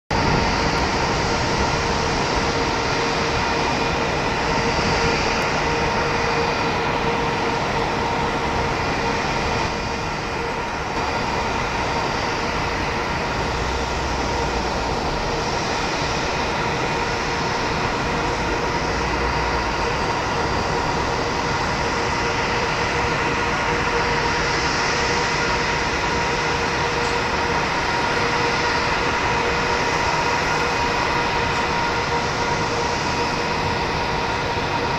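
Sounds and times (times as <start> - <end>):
jet engines idling: 0.1 - 34.9.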